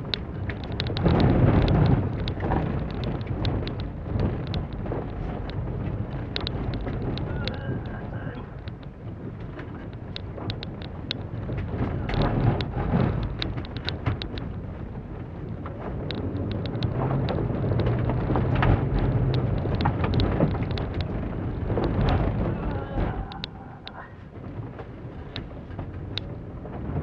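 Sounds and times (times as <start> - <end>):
gravel striking car underside: 0.0 - 23.5
car engine and tyre rumble: 0.0 - 27.0.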